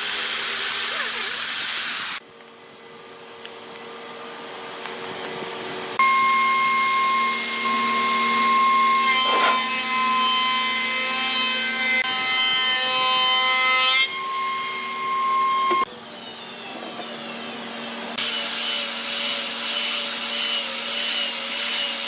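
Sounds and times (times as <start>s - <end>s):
power tool cutting wood: 0.0s - 2.2s, 6.0s - 22.0s.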